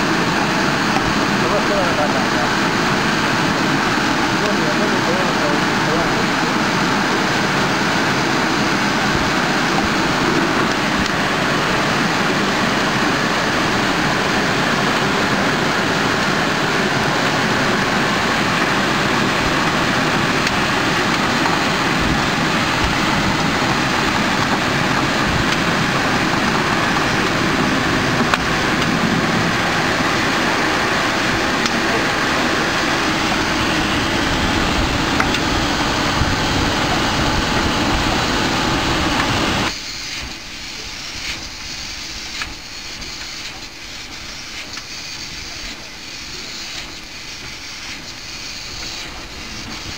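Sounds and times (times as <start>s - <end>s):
bottling machine running: 0.0s - 49.9s.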